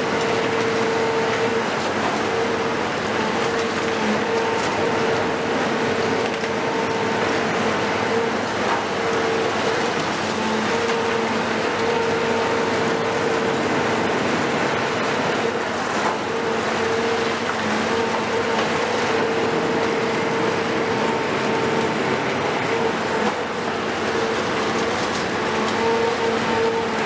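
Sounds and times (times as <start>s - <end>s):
excavator engine and hydraulics: 0.0s - 27.0s.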